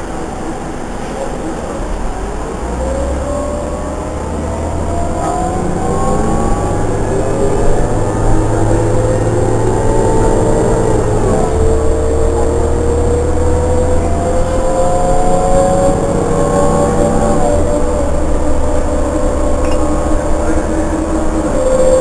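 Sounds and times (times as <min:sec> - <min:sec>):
bus engine whine accelerating: 0:00.0 - 0:22.0.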